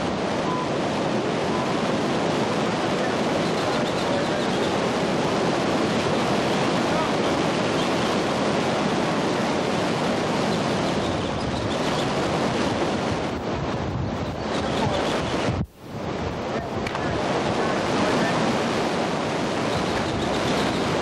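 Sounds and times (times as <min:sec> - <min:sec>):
water rushing through spillway: 0:00.0 - 0:21.0.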